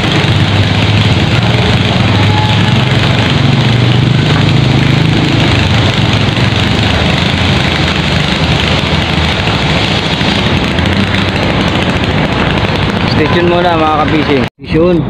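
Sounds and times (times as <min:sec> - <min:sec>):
engine drone: 0:00.0 - 0:15.0
loud rushing noise: 0:00.0 - 0:15.0.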